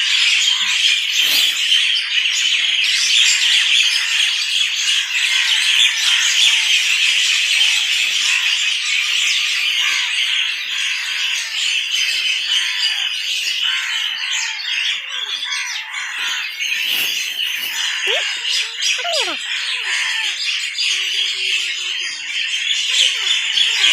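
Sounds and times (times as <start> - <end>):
flock of birds chirping: 0.0 - 23.9.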